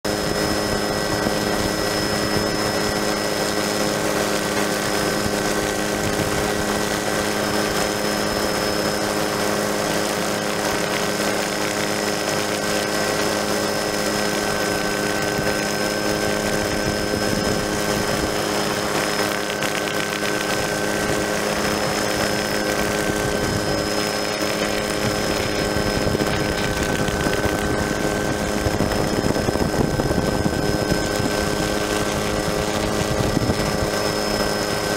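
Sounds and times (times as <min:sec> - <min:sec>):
helicopter engine drone: 0:00.0 - 0:34.9
high whine: 0:00.0 - 0:34.9.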